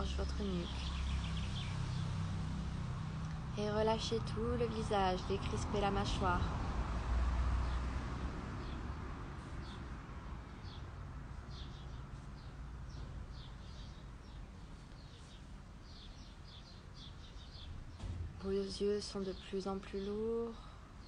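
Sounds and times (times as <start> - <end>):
small birds chirping: 0.0 - 6.5, 8.6 - 21.0.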